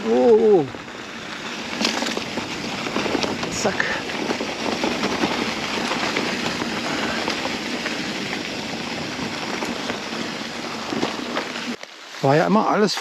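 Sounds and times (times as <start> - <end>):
bike tyres rushing on trail: 0.0 - 13.0
bike knocks and rattles: 1.3 - 11.8.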